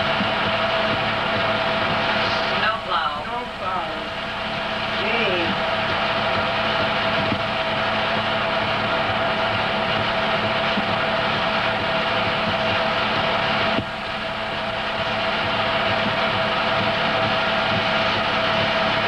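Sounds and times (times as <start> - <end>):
film projector whirring: 0.0 - 19.0.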